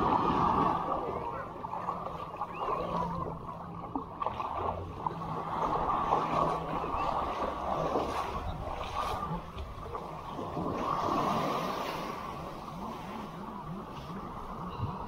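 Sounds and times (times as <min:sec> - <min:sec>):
muffled sea water sloshing: 0:00.0 - 0:15.0.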